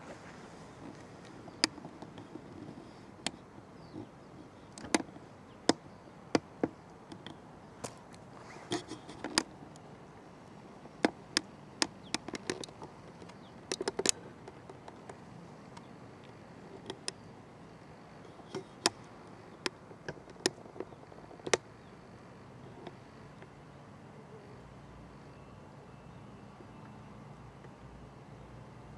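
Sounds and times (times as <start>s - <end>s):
faint low hum: 0.0s - 28.9s.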